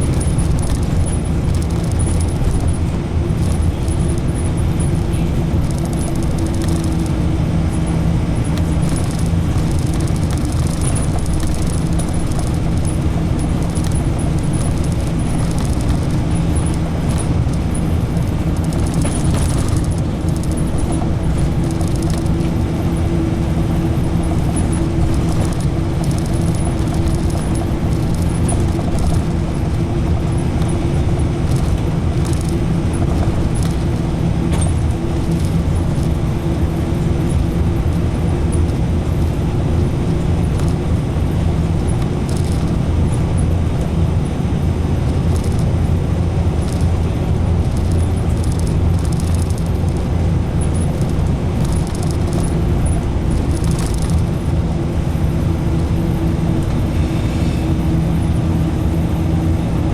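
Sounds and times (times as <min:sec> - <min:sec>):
bus engine and road noise: 0:00.0 - 0:59.9
constant low hum: 0:00.0 - 0:59.9.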